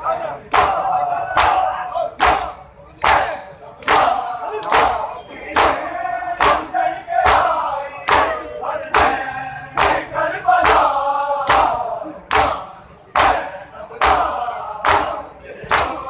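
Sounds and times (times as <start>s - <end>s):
men chanting in chorus: 0.0s - 16.0s.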